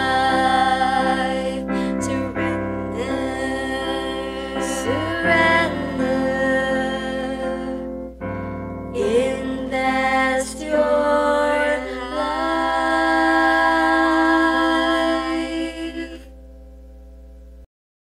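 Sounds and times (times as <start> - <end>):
women singing gospel duet: 0.0 - 8.1, 8.9 - 16.3
keyboard accompaniment: 0.0 - 17.7.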